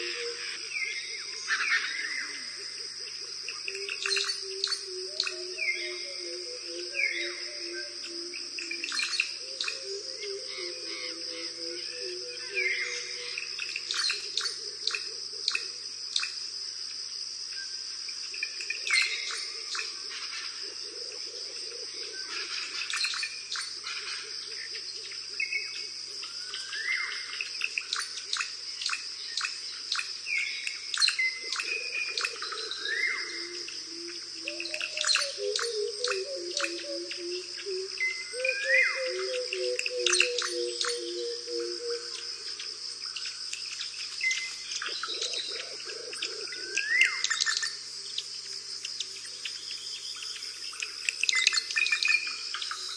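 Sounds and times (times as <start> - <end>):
high insect drone: 0.0 - 52.9.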